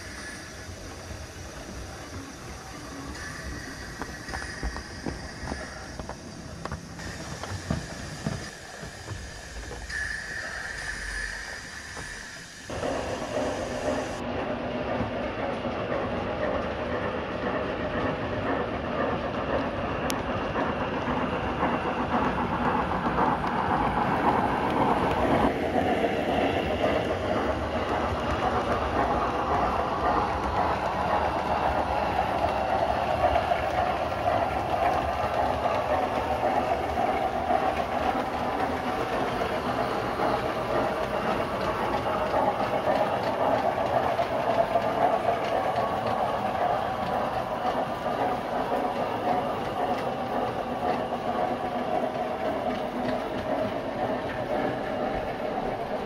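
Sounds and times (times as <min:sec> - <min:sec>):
model trains running on track: 0:00.0 - 0:56.0.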